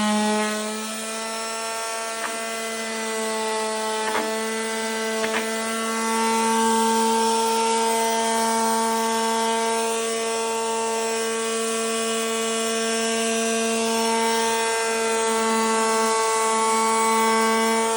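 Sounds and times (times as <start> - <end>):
detail sander buzzing: 0.0 - 17.9.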